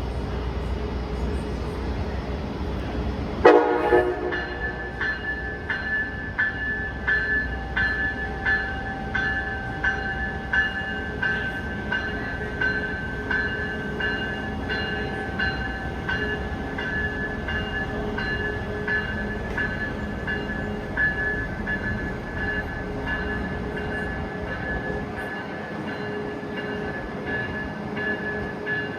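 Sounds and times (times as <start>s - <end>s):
locomotive bell ringing: 3.5s - 28.9s.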